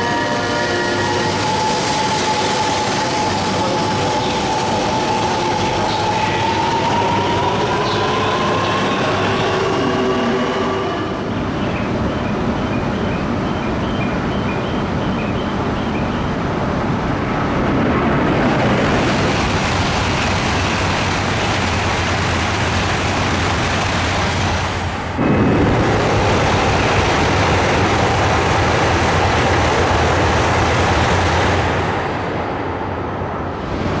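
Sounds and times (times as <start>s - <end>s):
high-speed train roaring past: 0.0s - 34.0s.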